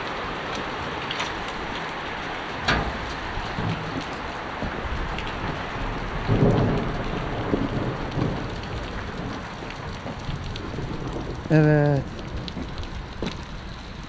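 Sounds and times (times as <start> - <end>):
heavy rain pouring: 0.0 - 14.0
low thunder rumble: 2.4 - 14.0.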